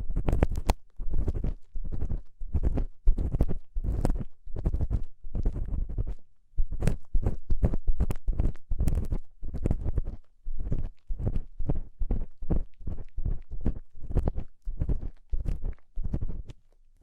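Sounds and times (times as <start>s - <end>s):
ear tool scraping inside ear: 0.0s - 16.6s.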